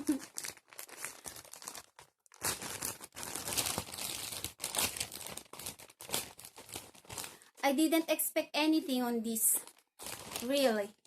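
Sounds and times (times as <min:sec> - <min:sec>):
plastic packaging crinkling: 0:00.0 - 0:08.1, 0:09.3 - 0:11.0.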